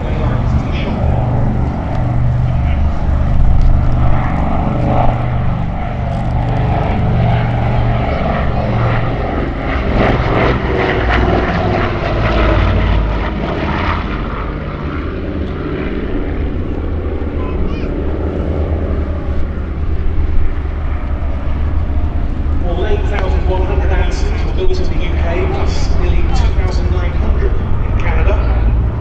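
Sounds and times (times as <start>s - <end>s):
twin radial aircraft engines running: 0.0s - 29.0s.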